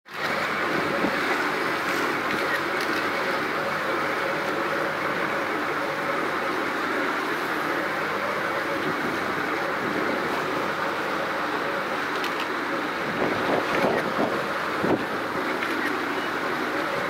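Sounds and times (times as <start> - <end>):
boat engine droning: 0.1 - 17.0.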